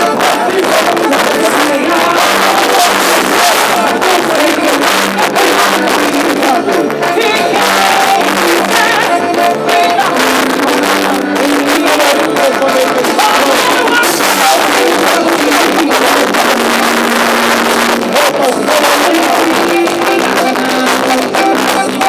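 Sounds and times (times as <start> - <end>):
instrumental band music with guitar: 0.0 - 22.0.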